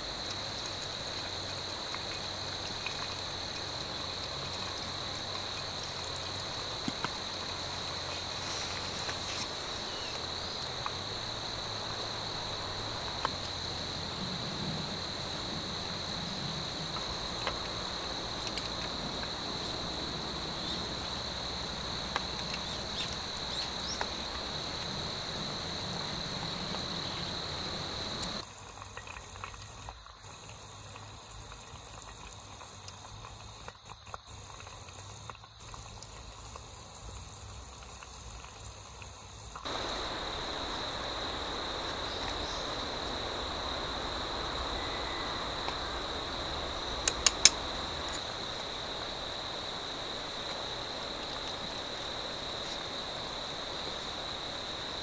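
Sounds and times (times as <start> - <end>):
insects trilling: 0.0 - 55.0
oil bubbling and sizzling: 0.0 - 55.0.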